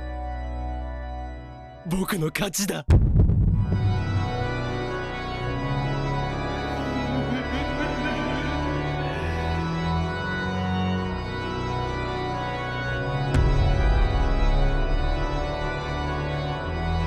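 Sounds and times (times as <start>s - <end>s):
sustained organ chords: 0.0s - 1.9s, 3.6s - 17.0s
held bass line: 2.9s - 17.0s.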